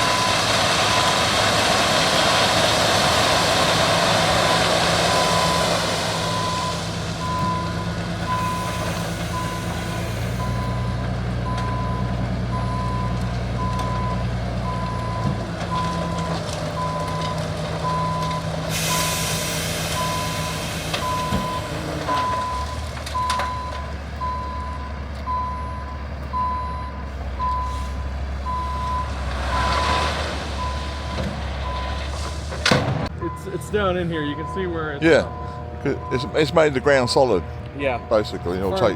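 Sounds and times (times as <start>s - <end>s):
vehicle engine running low: 0.0s - 38.9s
reversing alarm beeping: 4.4s - 32.3s, 33.2s - 38.9s.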